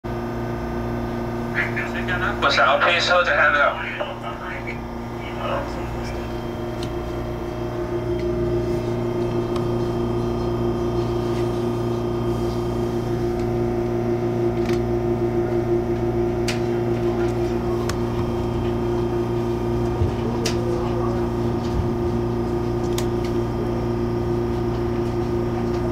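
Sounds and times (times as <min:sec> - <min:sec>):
train carriage electrical hum: 0:00.1 - 0:25.9.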